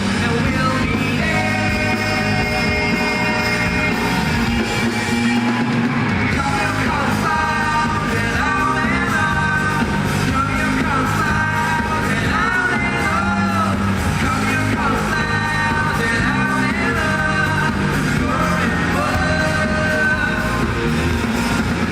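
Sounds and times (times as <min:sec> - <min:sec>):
lead vocals: 0:00.0 - 0:21.9
live rock band playing: 0:00.0 - 0:21.9.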